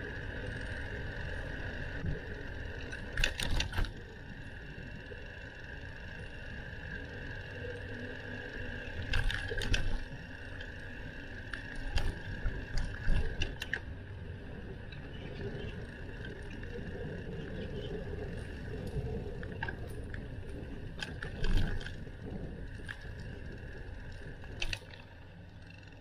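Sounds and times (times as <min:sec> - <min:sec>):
bicycle clicks and rattles: 0:00.0 - 0:26.0
bicycle tyres rumbling on road: 0:00.0 - 0:26.0.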